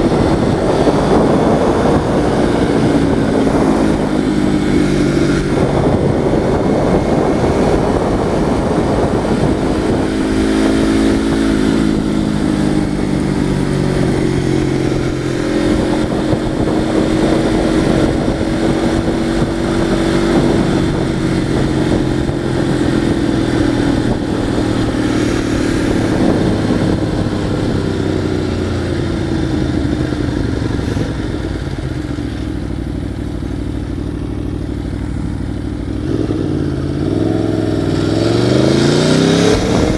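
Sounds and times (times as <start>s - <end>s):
heavy low rumble: 0.0s - 39.9s
motorcycle engine running: 0.0s - 39.9s.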